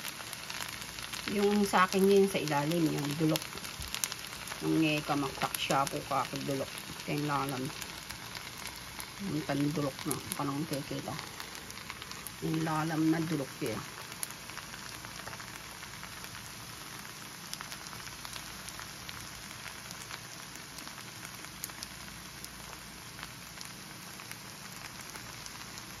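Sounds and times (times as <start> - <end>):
food sizzling in a hot pan: 0.0 - 26.0
small pops and crackles: 0.0 - 26.0.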